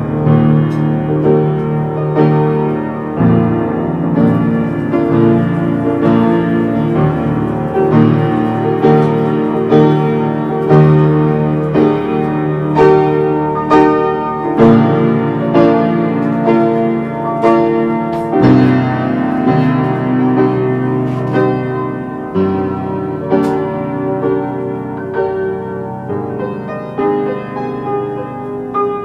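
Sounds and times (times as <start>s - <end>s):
piano playing sustained chords: 0.0s - 29.0s.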